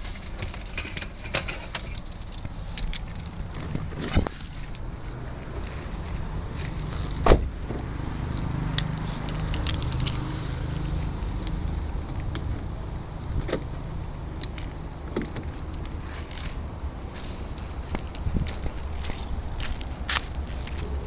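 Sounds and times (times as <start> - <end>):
car engine idling: 1.9 - 21.0.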